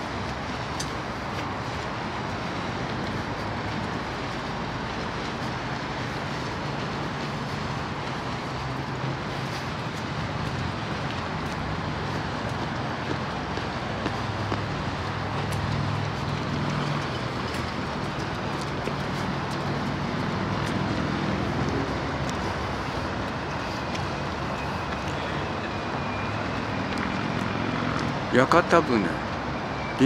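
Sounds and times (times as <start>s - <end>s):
city background hum: 0.0s - 30.0s.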